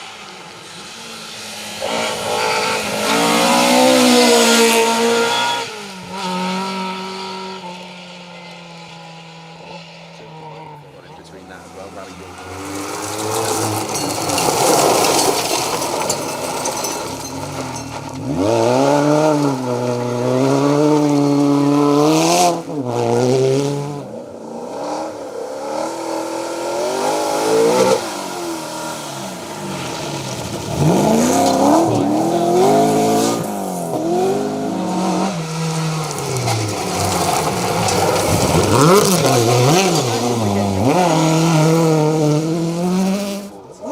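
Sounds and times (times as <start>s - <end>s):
rally car engine revving: 0.0s - 43.9s.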